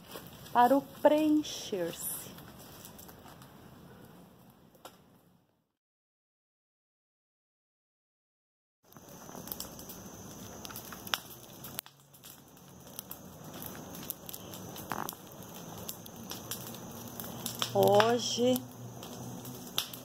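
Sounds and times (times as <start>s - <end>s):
bonfire crackling and popping: 0.0s - 5.6s, 8.8s - 20.0s.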